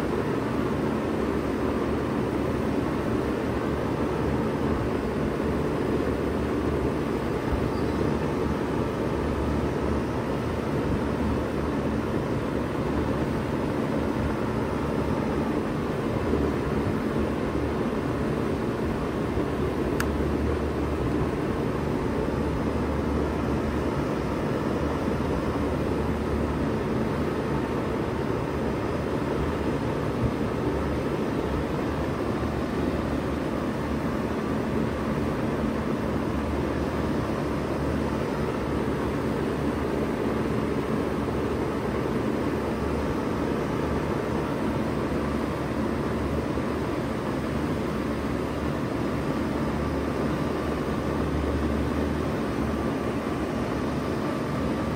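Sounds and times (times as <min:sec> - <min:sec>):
heat pump humming: 0:00.0 - 0:54.9.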